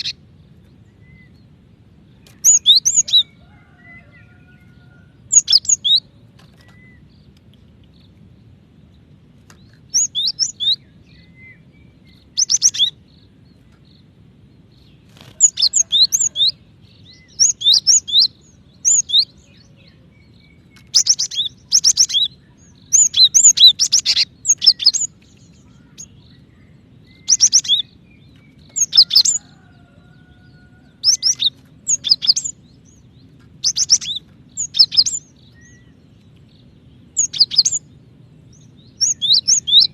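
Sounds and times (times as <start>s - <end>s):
bird chirping: 0.0s - 39.9s
faint low hum: 0.0s - 39.9s.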